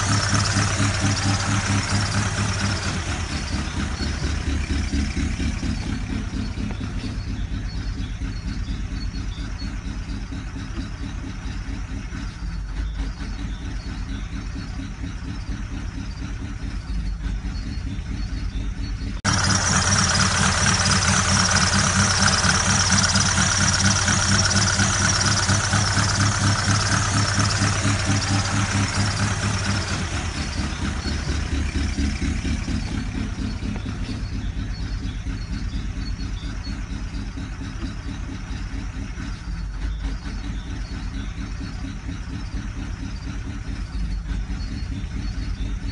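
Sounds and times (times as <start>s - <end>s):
car engine idling with knocking: 0.0s - 45.9s.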